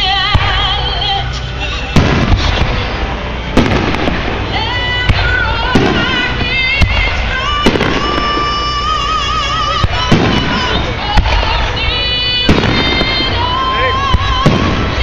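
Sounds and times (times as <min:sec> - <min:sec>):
music with singer: 0:00.0 - 0:03.6, 0:04.3 - 0:15.0
fireworks exploding: 0:00.0 - 0:15.0.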